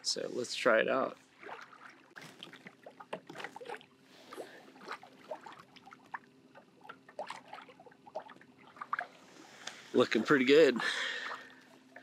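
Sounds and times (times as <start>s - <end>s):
water lapping against kayak hull: 1.1s - 12.0s.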